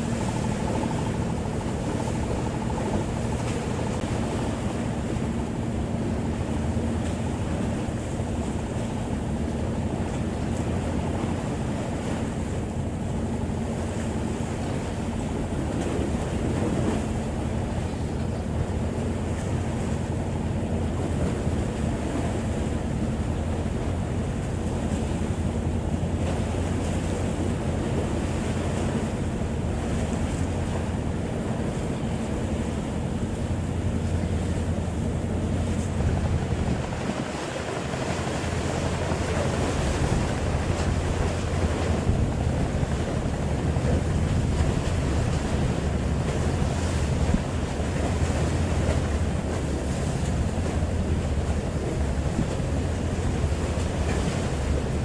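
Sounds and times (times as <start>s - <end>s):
boat engine drone: 0.0s - 55.0s
sea water rushing: 0.0s - 55.0s
wind buffeting microphone: 0.0s - 55.0s.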